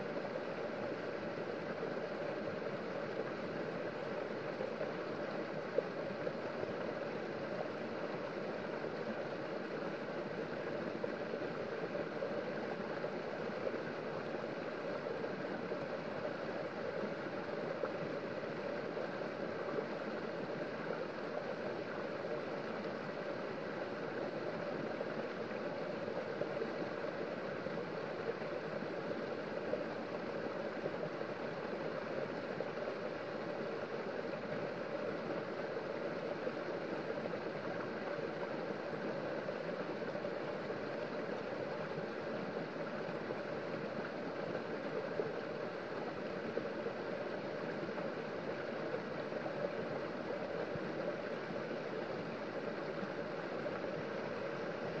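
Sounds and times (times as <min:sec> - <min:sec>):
stream splashing over rocks: 0:00.1 - 0:55.0.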